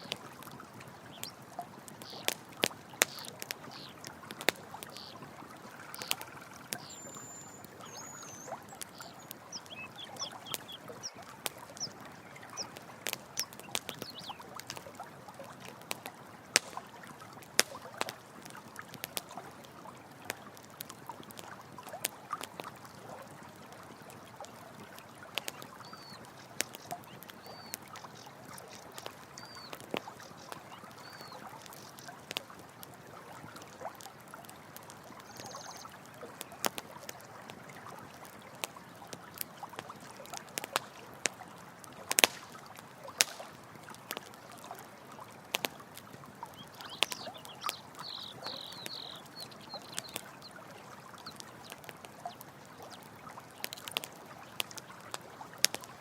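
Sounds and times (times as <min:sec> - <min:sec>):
campfire crackling: 0:00.0 - 0:56.0
running water: 0:00.0 - 0:56.0.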